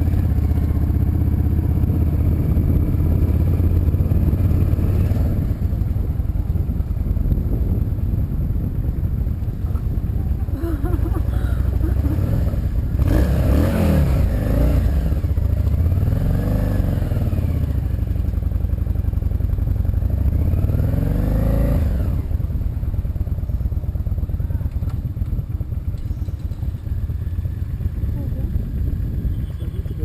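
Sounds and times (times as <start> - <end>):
road rumble: 0.0 - 30.0
vehicle engine running: 0.0 - 30.0.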